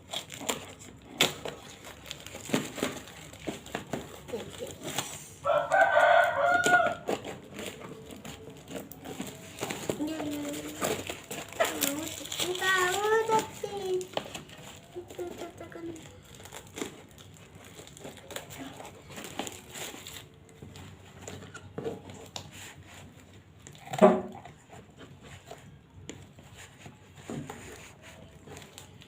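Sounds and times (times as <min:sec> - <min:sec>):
plastic packaging crinkling: 0:00.0 - 0:27.0, 0:27.6 - 0:29.0.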